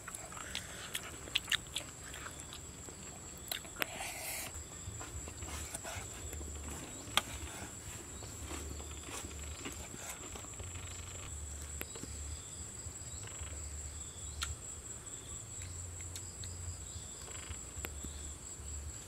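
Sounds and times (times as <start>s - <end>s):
insects trilling: 0.0s - 19.0s
pulsing insect chirr: 0.0s - 19.0s.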